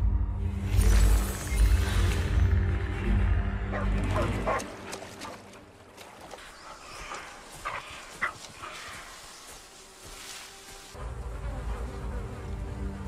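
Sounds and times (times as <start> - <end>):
low droning music: 0.0 - 13.0.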